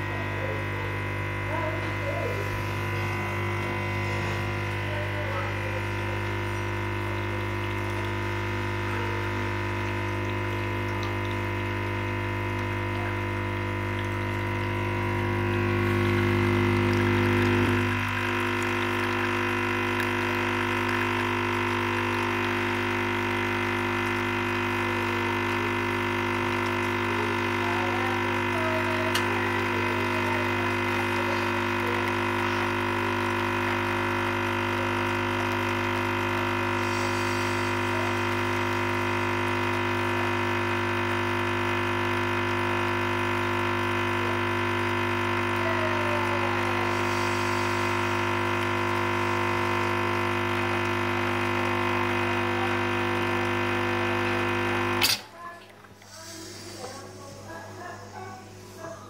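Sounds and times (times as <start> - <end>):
espresso machine pump humming: 0.0 - 59.0.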